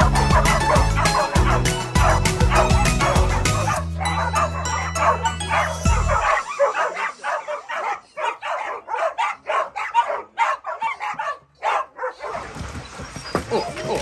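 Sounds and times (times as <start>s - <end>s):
dogs whining and yipping: 0.0s - 14.0s.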